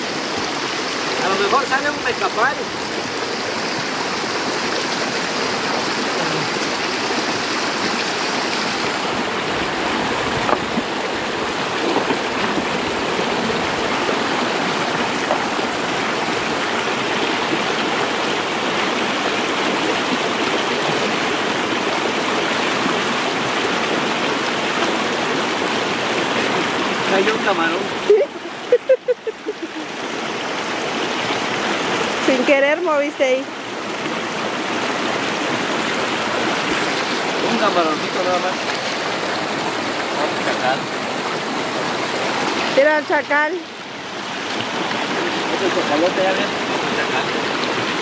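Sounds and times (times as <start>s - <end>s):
river water flowing over rocks: 0.0s - 48.0s.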